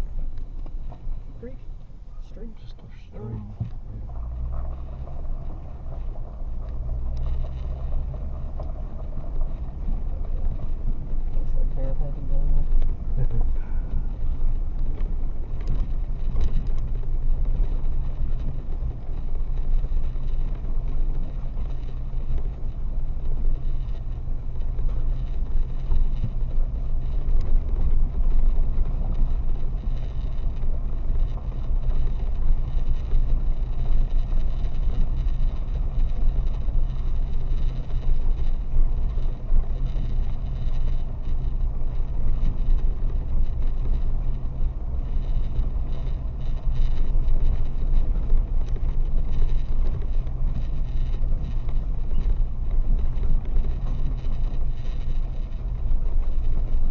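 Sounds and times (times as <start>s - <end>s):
car rumble on gravel road: 0.0s - 56.9s
faint clicks: 2.7s - 56.9s.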